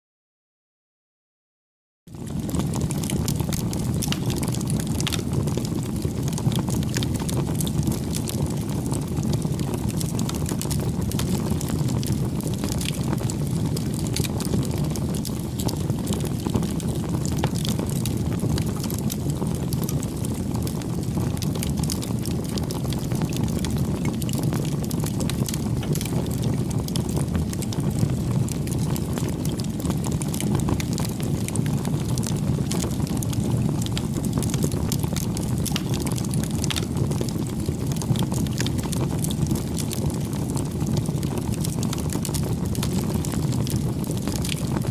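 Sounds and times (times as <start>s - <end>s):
burning wood crackling and popping: 2.1s - 44.9s
low rush of flames: 2.1s - 44.9s.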